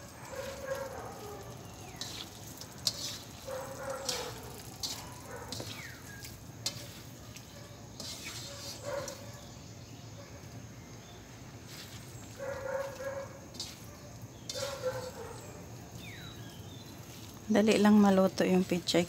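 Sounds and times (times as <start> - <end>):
spatula scraping a wok: 0.0 - 9.7, 11.5 - 19.0
food sizzling: 0.0 - 19.0.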